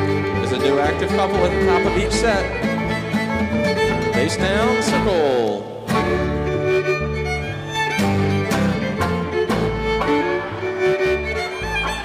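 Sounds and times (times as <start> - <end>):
dance band playing: 0.0 - 12.0
fiddle: 0.0 - 12.0
upright bass: 0.0 - 12.0.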